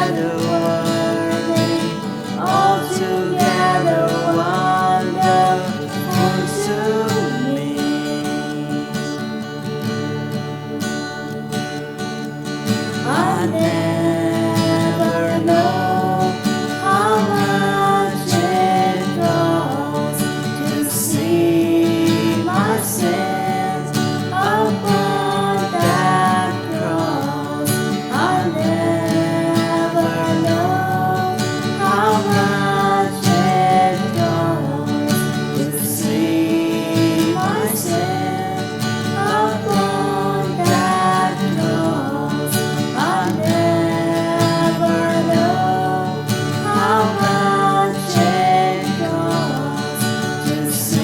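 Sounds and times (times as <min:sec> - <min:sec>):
acoustic guitar: 0:00.0 - 0:51.0
worship band music: 0:00.0 - 0:51.0.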